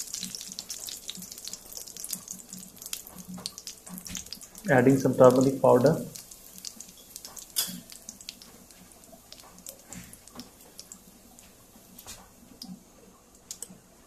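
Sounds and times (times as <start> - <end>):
spices popping and crackling: 0.0 - 12.7
oil sizzling: 0.0 - 13.6.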